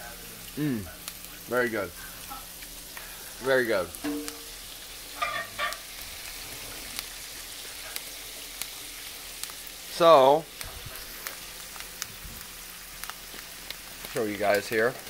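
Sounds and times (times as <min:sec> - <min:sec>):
mushrooms sizzling in butter: 0:00.0 - 0:15.0.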